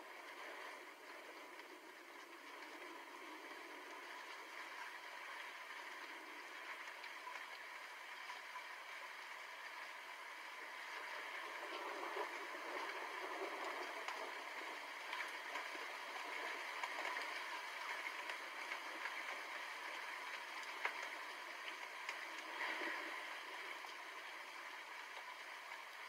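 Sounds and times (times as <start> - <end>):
raindrop ticks: 0.0 - 26.0
steady rain hiss: 0.0 - 26.0.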